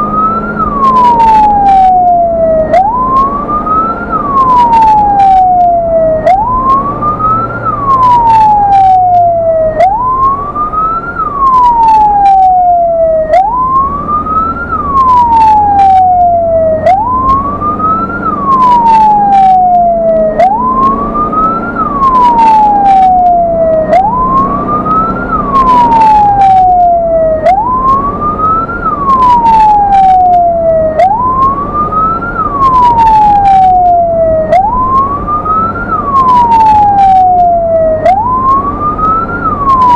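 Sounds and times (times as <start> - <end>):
ambulance engine running: 0.0 - 39.9
ambulance wail siren: 0.0 - 39.9.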